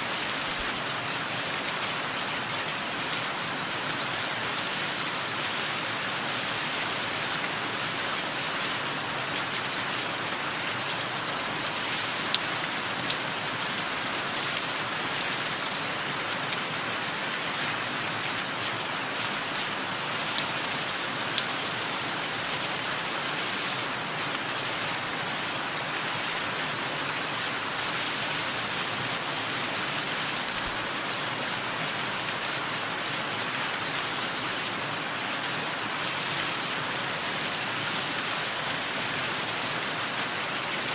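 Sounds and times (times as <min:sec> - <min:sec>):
rain hiss: 0:00.0 - 0:40.9.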